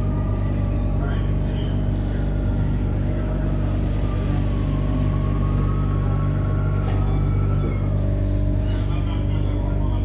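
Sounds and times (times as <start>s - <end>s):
faint train whine: 0.0s - 10.0s
train electrical hum: 0.0s - 10.0s.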